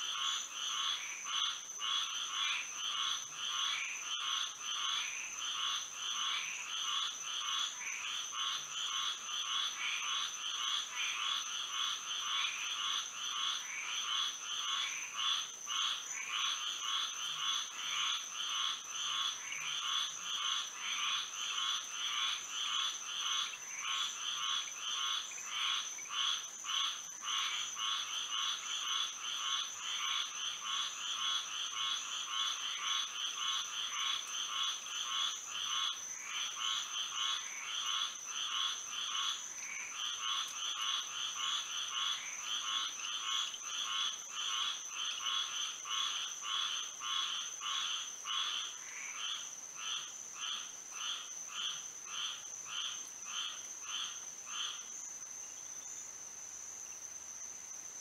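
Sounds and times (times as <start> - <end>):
frogs calling: 0.0 - 56.2.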